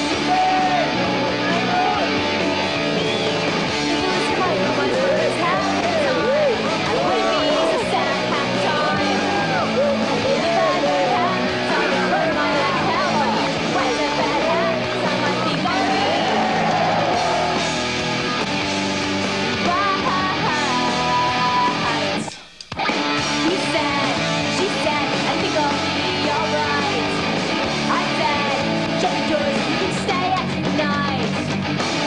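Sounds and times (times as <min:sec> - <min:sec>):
guitar rock music: 0:00.0 - 0:32.0.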